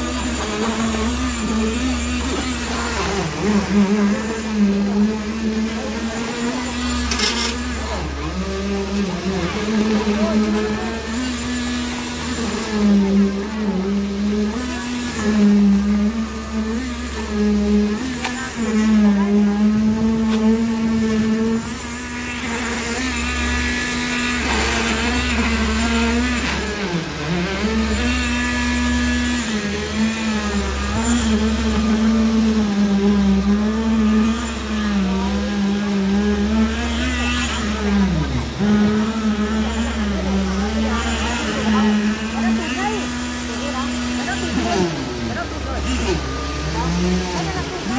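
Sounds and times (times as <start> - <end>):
concrete vibrator motor hum: 0.0 - 47.9.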